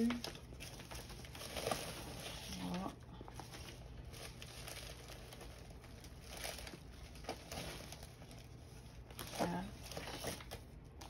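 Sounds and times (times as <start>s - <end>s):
plastic sleeves rustling and crinkling: 0.0s - 11.0s.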